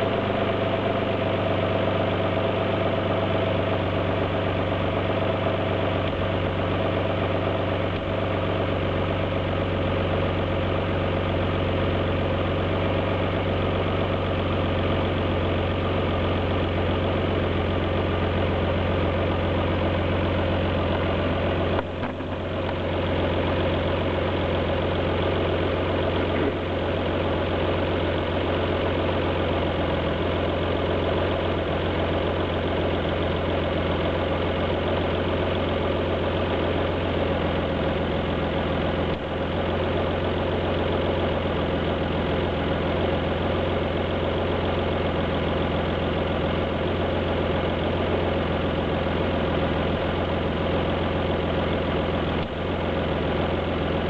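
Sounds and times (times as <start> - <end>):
car engine idling with misfire: 0.0 - 54.0.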